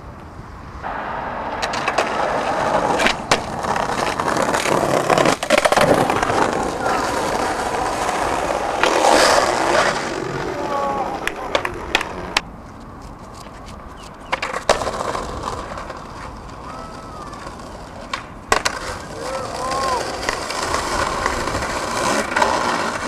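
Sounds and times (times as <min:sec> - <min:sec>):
skateboard wheels rolling on concrete: 0:00.0 - 0:23.0
skateboard clacks: 0:00.8 - 0:23.0.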